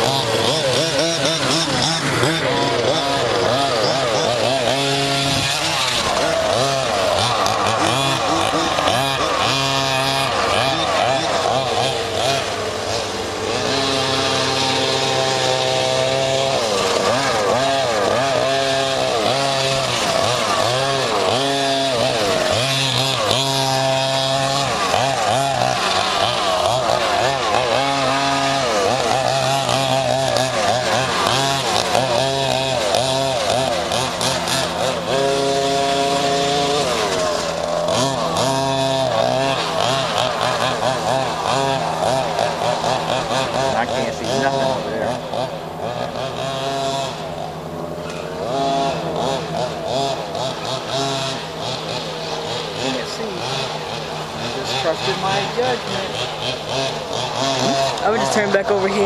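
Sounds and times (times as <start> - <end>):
rc car engines revving: 0.0 - 59.0.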